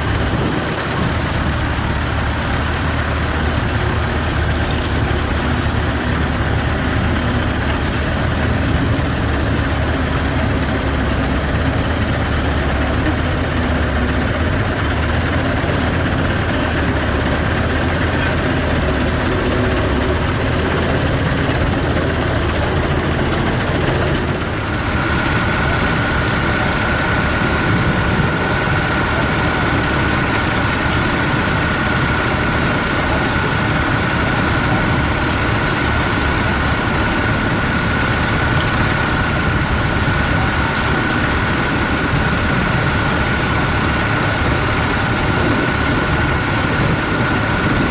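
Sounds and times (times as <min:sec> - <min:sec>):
steady high whine: 0:00.0 - 0:47.9
tractor engine running: 0:00.0 - 0:47.9.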